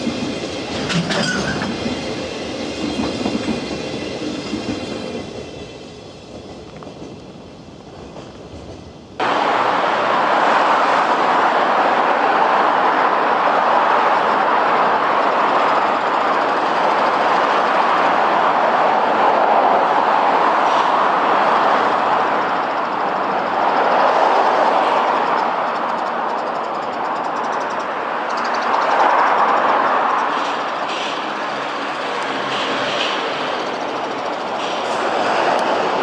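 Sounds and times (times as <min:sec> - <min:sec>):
train wheels rolling on rails: 0:00.0 - 0:36.0.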